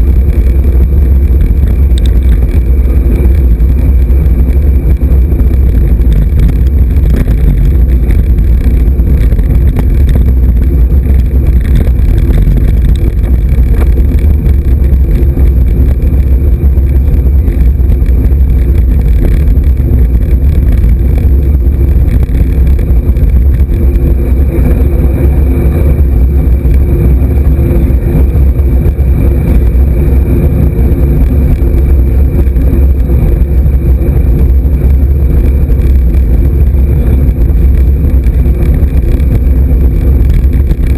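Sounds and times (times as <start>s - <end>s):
road vibration rumble: 0.0s - 40.9s
wind buffeting: 0.0s - 40.9s.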